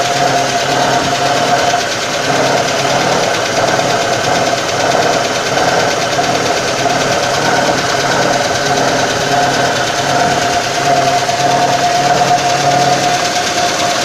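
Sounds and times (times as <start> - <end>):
car engine running: 0.0 - 14.0
fast fine rattle: 0.0 - 14.0
water pump whine: 0.0 - 14.0.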